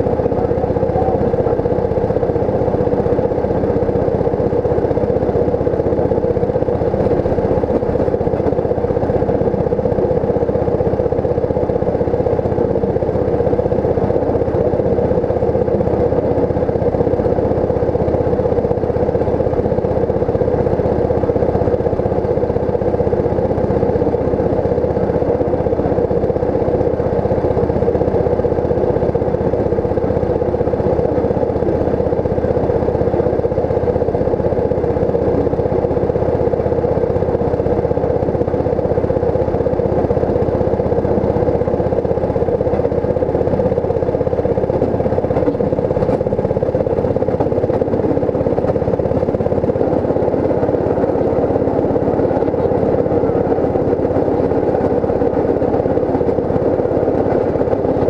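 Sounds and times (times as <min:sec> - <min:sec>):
rail motor car droning on track: 0:00.0 - 0:58.0.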